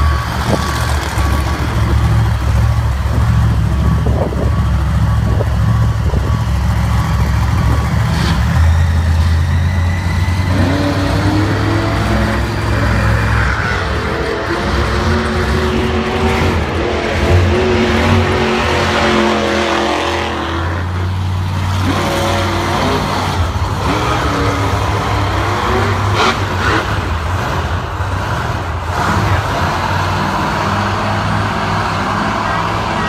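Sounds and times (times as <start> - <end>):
truck engines revving: 0.0 - 33.0.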